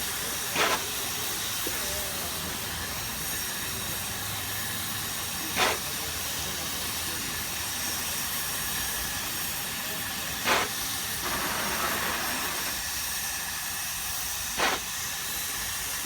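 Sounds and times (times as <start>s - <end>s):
sharp bursts of steam venting: 0.0s - 16.0s
steam hissing: 0.0s - 16.0s.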